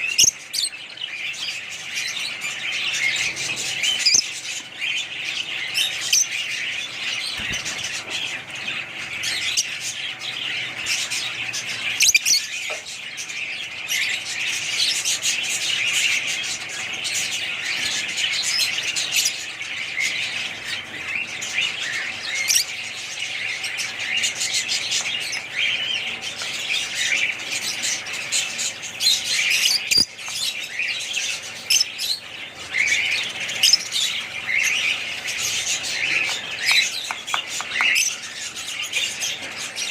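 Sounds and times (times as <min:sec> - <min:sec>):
small birds chirping and squawking: 0:00.0 - 0:39.9.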